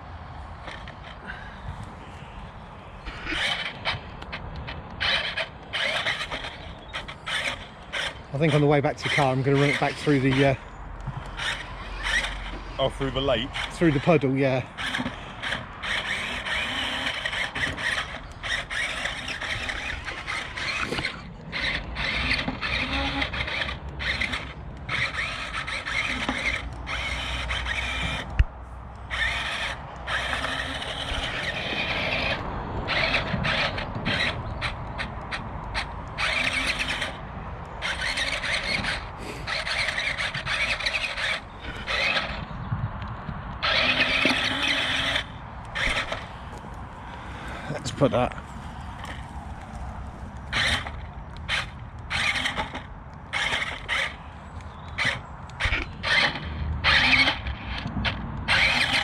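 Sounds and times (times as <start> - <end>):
toy car motors whining: 0.6 - 42.6, 43.5 - 59.0.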